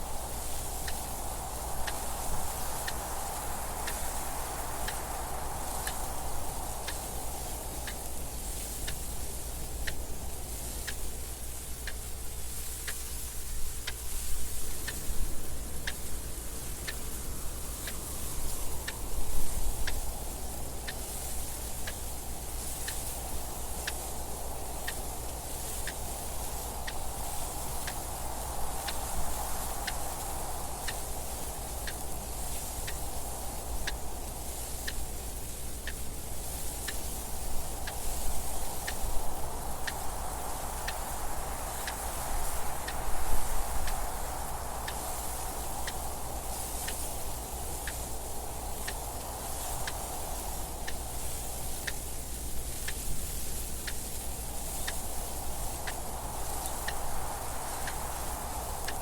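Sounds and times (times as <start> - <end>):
wind noise: 0.0 - 59.0
clock ticking: 0.3 - 59.0.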